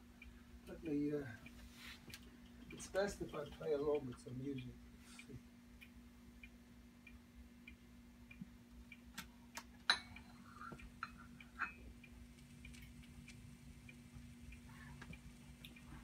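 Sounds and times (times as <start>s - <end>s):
clock ticking faintly: 0.0s - 16.0s
low steady hum: 0.0s - 16.0s.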